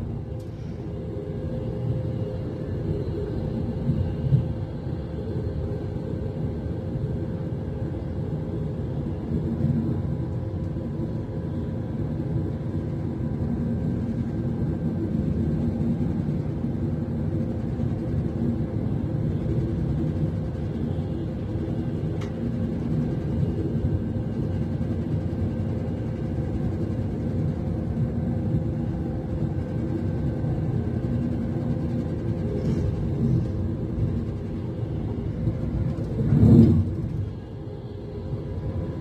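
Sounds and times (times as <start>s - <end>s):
electric train rumble inside carriage: 0.0s - 39.0s
steady hums: 0.0s - 39.0s.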